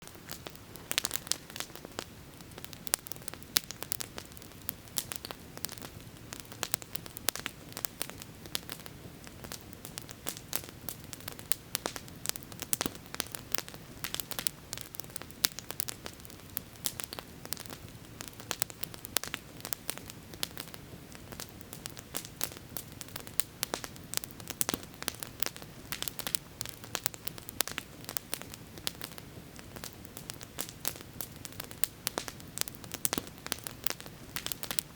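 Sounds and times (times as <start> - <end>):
campfire crackling: 0.0 - 34.9
low rush of fire: 0.0 - 34.9.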